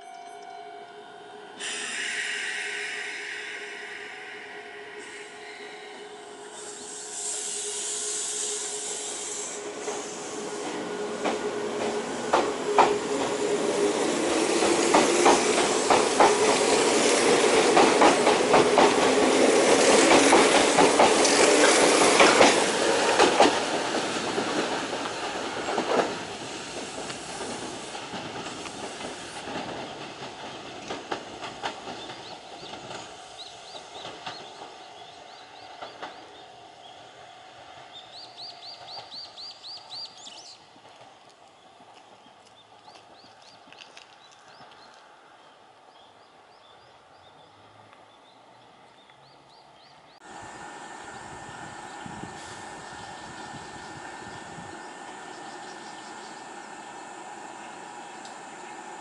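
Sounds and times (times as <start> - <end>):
train passing by: 0.0 - 59.0.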